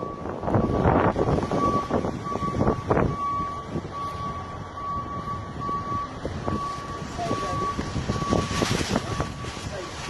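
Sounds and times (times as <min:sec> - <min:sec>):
engine noise: 0:00.0 - 0:10.0
reversing alarm beeping: 0:00.0 - 0:10.0.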